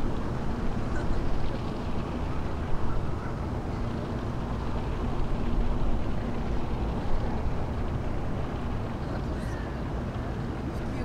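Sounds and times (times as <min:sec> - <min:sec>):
faint engine hum: 0:00.0 - 0:11.0.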